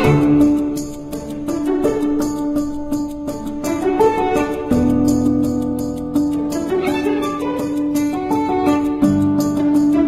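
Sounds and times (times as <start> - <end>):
string instrument tune with beat: 0.0 - 10.0.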